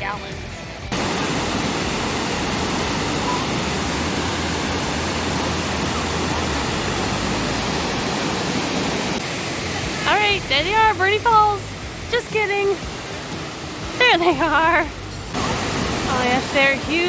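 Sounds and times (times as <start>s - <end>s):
waterfall pouring into pool: 0.9s - 17.0s.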